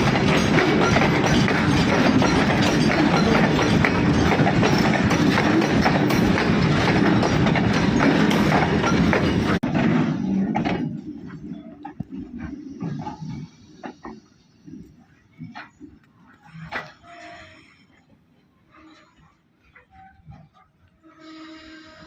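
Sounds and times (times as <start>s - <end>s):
wheels clickety-clack over rail joints: 0.0s - 21.2s
freight train wagons rumbling: 0.0s - 22.0s.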